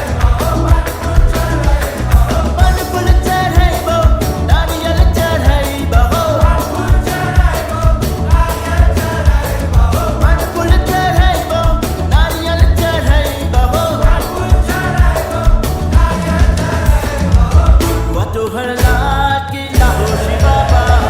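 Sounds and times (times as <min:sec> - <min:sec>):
heavy bass beat: 0:00.0 - 0:21.0.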